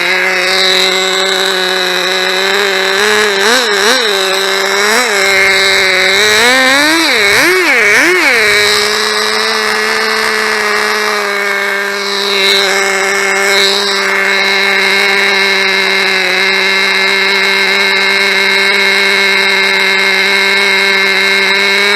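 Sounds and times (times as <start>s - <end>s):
small nitro engine idling and revving: 0.0s - 21.9s.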